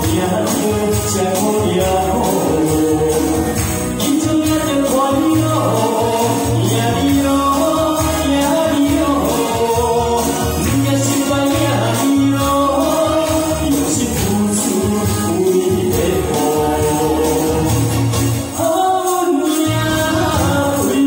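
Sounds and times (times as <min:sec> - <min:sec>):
backing track with bass beat: 0:00.0 - 0:21.0
person singing into microphone: 0:00.0 - 0:21.0
tambourines shaken: 0:00.0 - 0:21.0.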